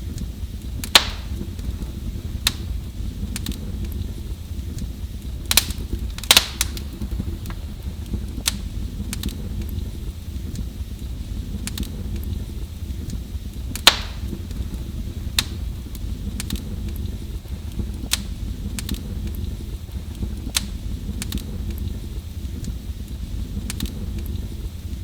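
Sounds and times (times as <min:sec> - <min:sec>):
fire crackles and pops: 0:00.0 - 0:25.0
low rumble of flame: 0:00.0 - 0:25.0.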